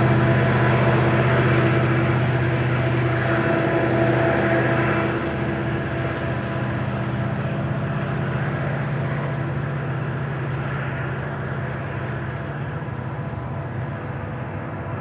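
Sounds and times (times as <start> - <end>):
diesel locomotives droning: 0.0 - 15.0
rolling rumble of freight cars: 0.0 - 15.0.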